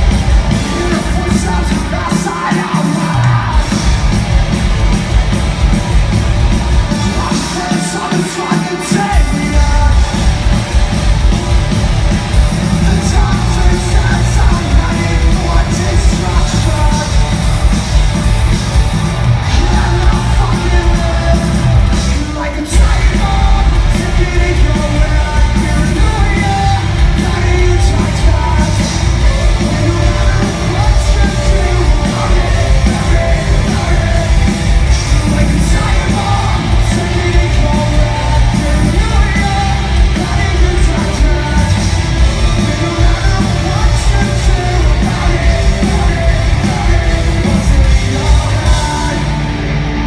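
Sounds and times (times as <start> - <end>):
person yelling singing: 0.0 - 4.1, 6.9 - 10.3, 12.6 - 17.4, 19.3 - 49.6
drums: 0.0 - 50.0
electric guitars: 0.0 - 50.0.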